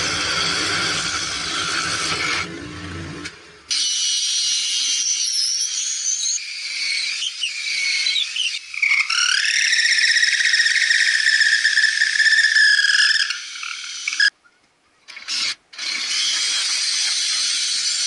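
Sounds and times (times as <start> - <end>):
drill press boring wood: 0.0 - 2.5, 3.7 - 14.3, 15.1 - 18.0.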